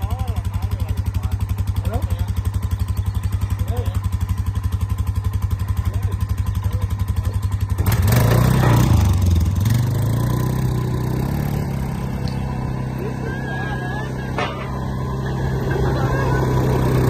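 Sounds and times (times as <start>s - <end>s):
atv engine idling and revving: 0.0s - 17.0s.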